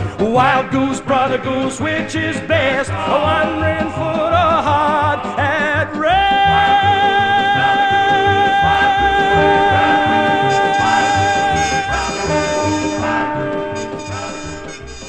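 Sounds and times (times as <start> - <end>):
man singing a long note: 1.9 - 14.6.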